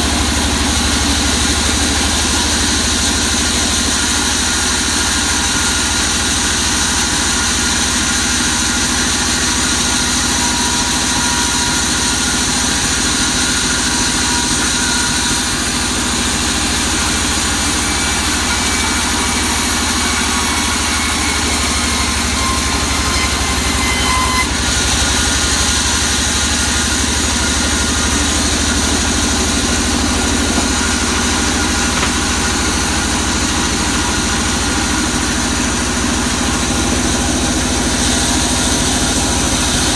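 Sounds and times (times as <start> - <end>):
band sawmill cutting log: 0.0 - 39.9.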